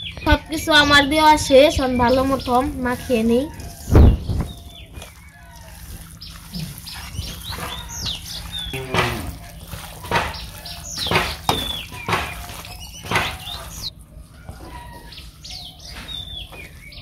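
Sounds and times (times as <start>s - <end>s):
hands mixing food in a bowl: 0.0s - 17.0s
small birds chirping: 0.0s - 17.0s.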